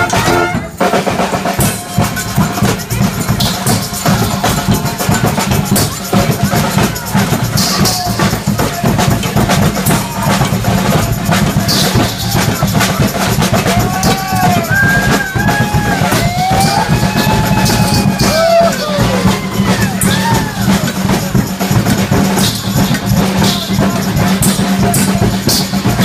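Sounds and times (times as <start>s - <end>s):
bass drums beating: 0.0s - 26.0s
snare drum: 0.0s - 26.0s
sousaphones playing bass line: 0.0s - 26.0s.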